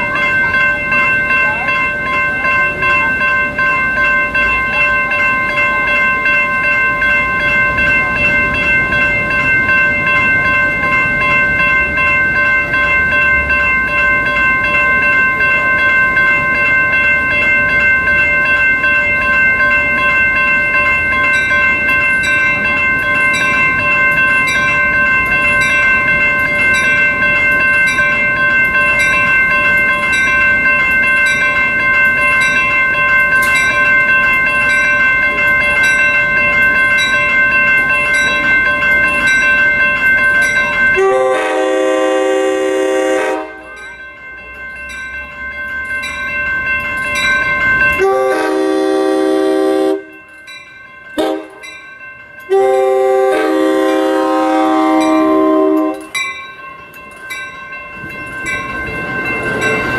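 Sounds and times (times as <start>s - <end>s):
higher bell ringing: 0.0s - 59.9s
railroad crossing bell ringing: 0.0s - 59.9s.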